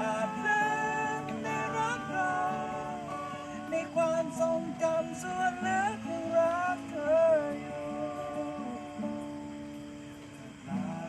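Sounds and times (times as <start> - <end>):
person singing: 0.0 - 9.8, 10.4 - 11.0
acoustic guitar chords: 0.0 - 11.0.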